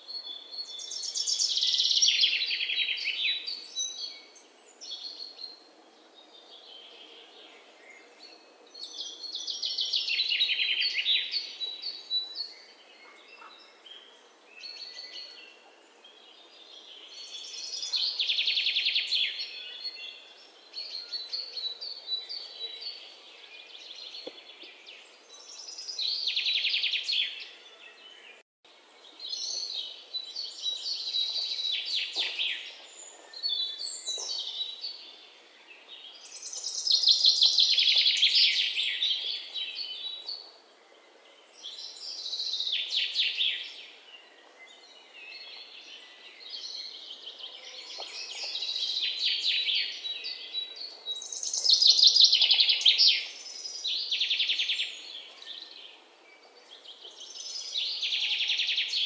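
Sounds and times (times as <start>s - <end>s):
soft outdoor background: 0.0s - 59.0s
songbirds singing trills: 0.0s - 59.0s.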